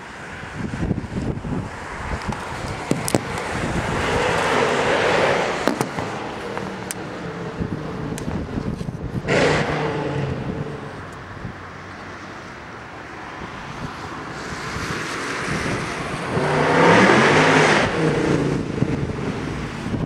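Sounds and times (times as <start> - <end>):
car engine revving and passing: 0.3 - 20.0.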